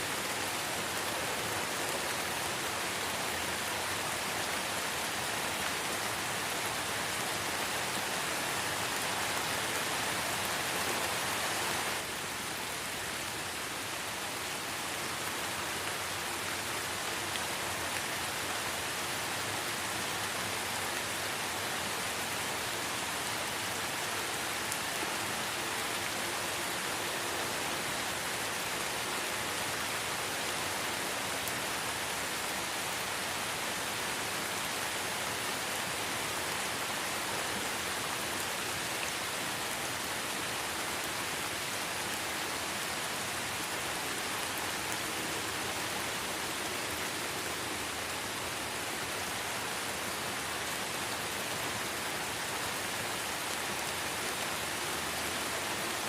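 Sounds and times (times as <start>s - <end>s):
light rain in forest: 0.0s - 56.0s.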